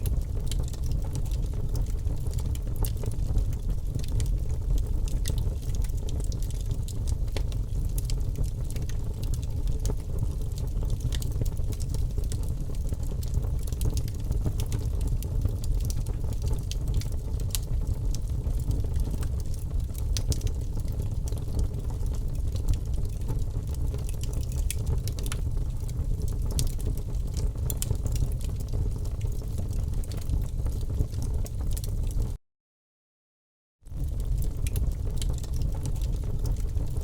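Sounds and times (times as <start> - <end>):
wood fire crackling: 0.0 - 32.4, 33.9 - 37.0.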